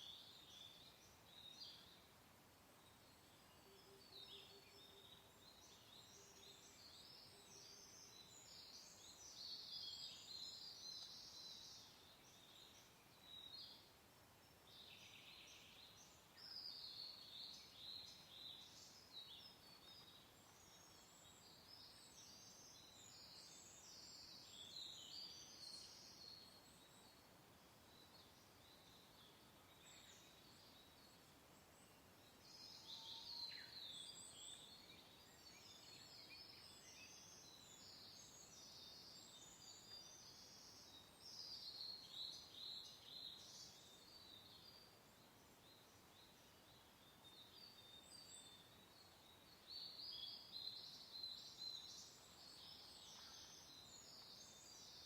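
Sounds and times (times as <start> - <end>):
small birds singing and chirping: 0.0 - 55.0
soft hiss of wind: 0.0 - 55.0.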